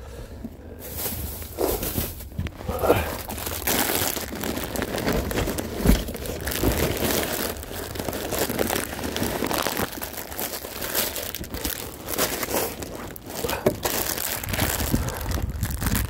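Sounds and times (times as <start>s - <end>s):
rustling crinkling handling noise: 0.4s - 16.0s.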